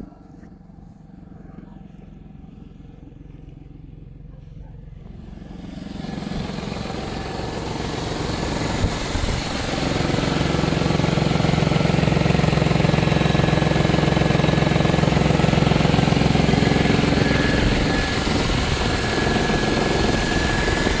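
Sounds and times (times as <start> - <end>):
car engine running: 0.2 - 21.0.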